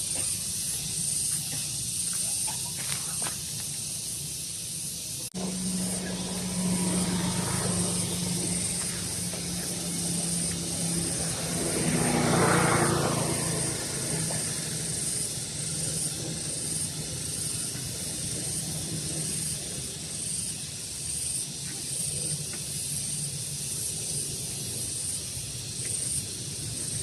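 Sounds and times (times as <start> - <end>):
continuous high hiss: 0.0 - 12.5, 13.4 - 27.0
engine drone passing: 4.1 - 27.0.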